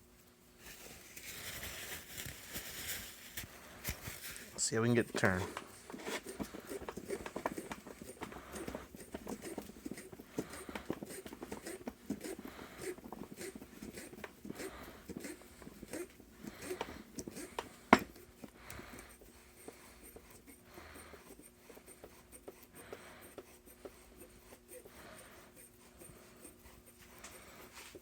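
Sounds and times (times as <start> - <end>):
vise screw scraping and clicking: 5.1 - 28.0
soft breathing: 5.2 - 28.0.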